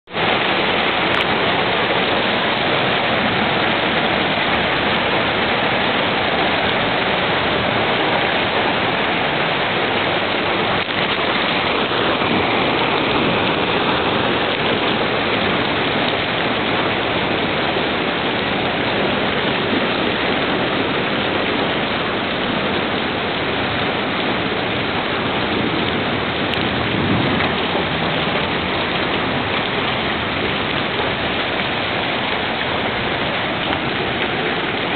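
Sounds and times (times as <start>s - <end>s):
heavy rain on rooftops: 0.0s - 34.9s.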